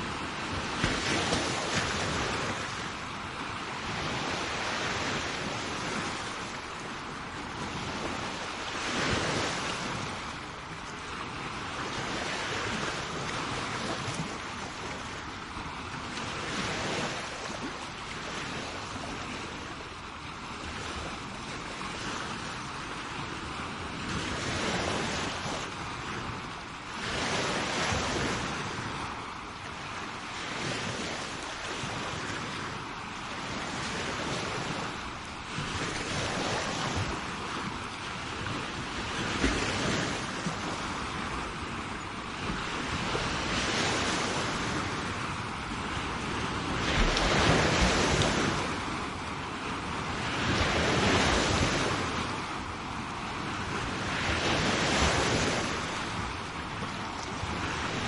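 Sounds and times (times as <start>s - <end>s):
sea waves washing onto shore: 0.0s - 58.0s
wind on microphone: 0.0s - 58.0s.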